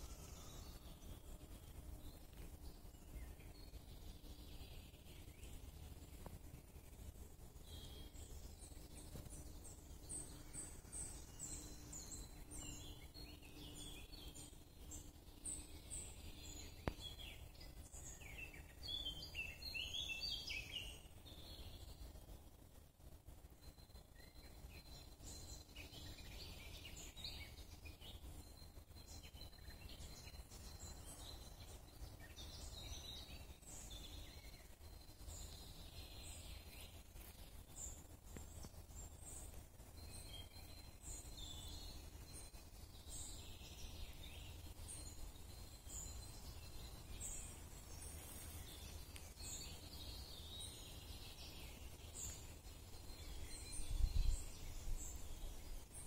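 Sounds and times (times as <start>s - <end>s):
birds chirping: 0.0s - 22.1s, 23.6s - 56.0s.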